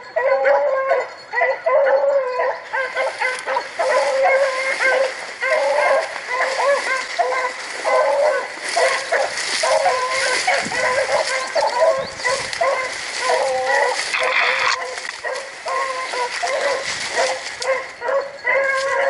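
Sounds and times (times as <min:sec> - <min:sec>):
hounds baying: 0:00.0 - 0:19.0
brush rustling and crackling: 0:02.6 - 0:19.0.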